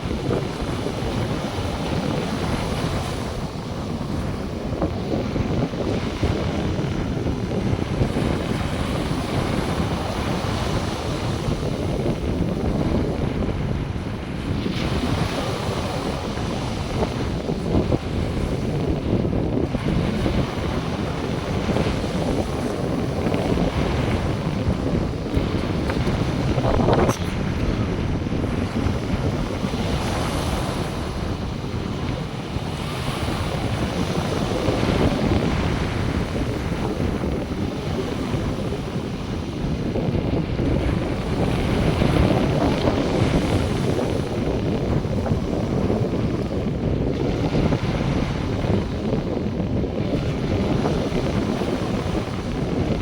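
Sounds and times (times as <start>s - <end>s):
sea surf washing: 0.0s - 53.0s
wind buffeting microphone: 0.0s - 53.0s.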